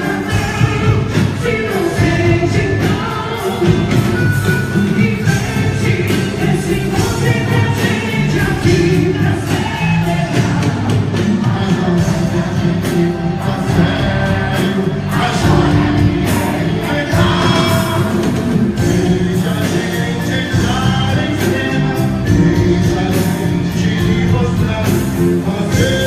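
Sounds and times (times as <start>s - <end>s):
folk dance music with singer: 0.0s - 26.0s.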